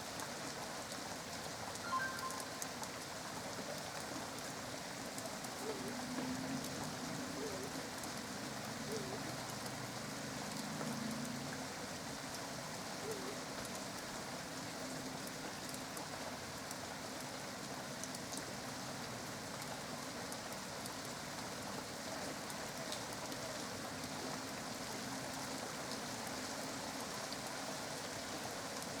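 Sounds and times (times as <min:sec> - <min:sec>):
light drip ticks: 0:00.0 - 0:29.0
steady rain falling: 0:00.0 - 0:29.0.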